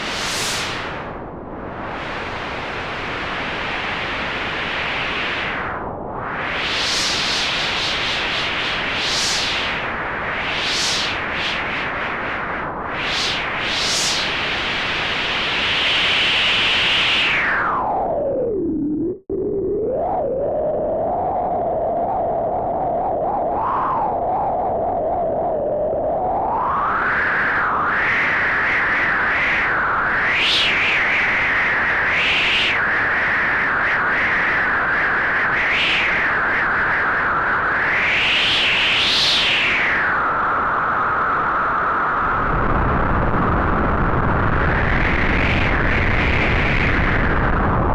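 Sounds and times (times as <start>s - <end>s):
synthesized wind gusts: 0.0s - 47.9s.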